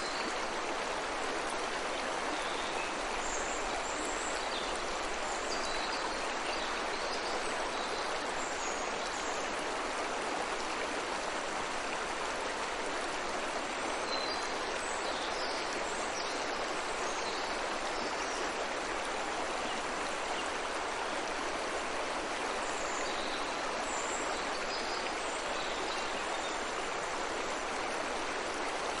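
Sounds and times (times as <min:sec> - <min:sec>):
stream running: 0:00.0 - 0:29.0.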